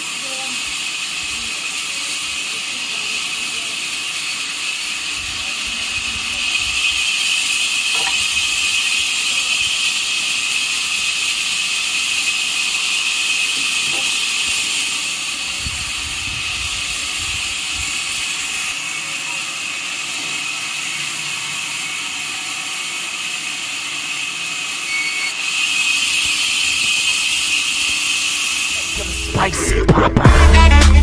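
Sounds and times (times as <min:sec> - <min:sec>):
high-pitched hiss: 0:00.0 - 0:29.6.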